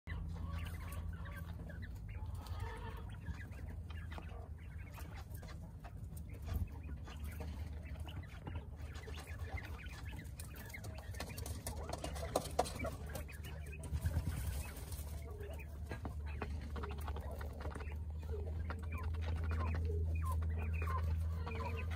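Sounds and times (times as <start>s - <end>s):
birds rustling in straw: 0.1s - 21.9s
low steady hum: 0.1s - 21.9s
quail soft calls: 0.1s - 21.9s.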